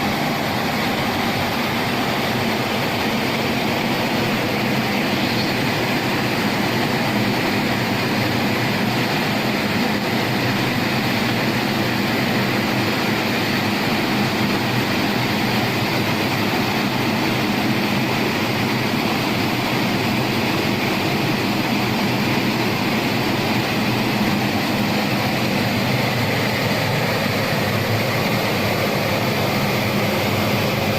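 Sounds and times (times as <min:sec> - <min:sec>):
low machine hum: 0:00.0 - 0:30.9.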